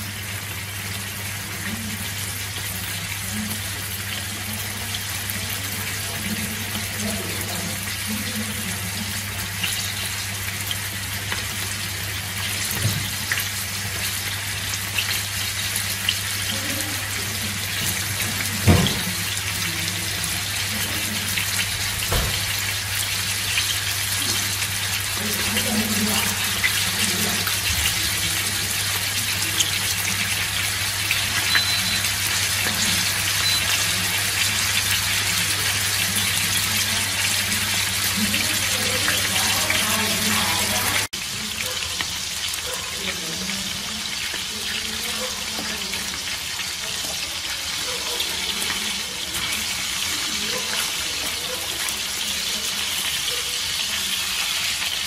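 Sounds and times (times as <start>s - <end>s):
fish sizzling in frying pan: 0.0s - 55.0s.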